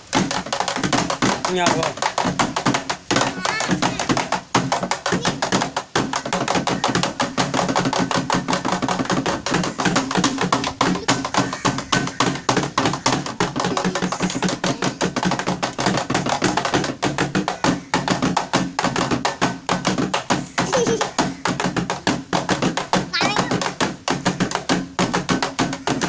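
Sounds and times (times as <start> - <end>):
music with fast knocking percussion: 0.0 - 26.0.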